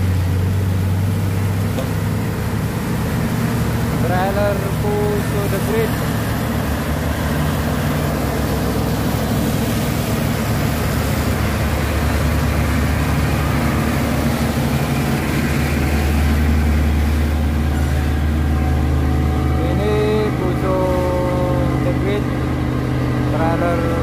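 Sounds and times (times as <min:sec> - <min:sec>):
diesel truck engines droning: 0:00.0 - 0:24.0.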